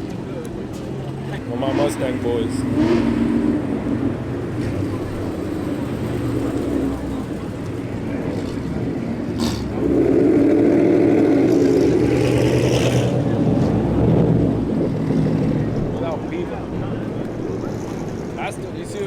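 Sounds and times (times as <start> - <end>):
car engine running: 1.3 - 18.4.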